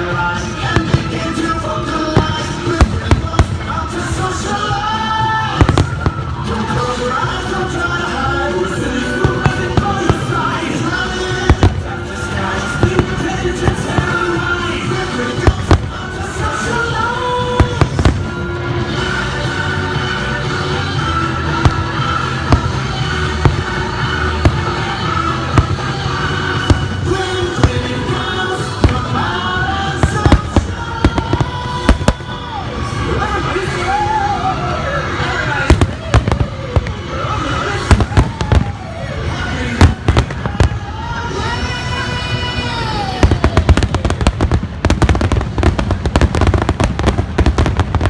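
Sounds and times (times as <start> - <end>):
fireworks bangs: 0.0 - 34.2, 35.2 - 48.0
music over loudspeakers: 0.0 - 48.0.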